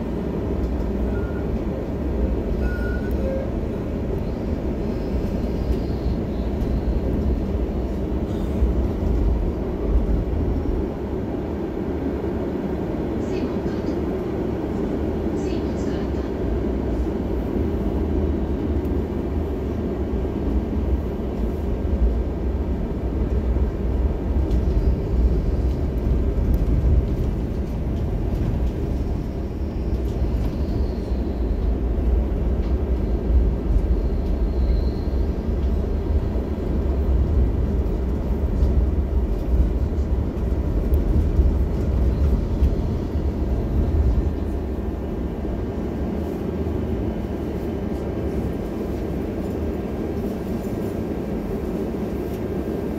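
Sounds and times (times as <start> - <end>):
tram wheels rumbling on rails: 0.0 - 52.9.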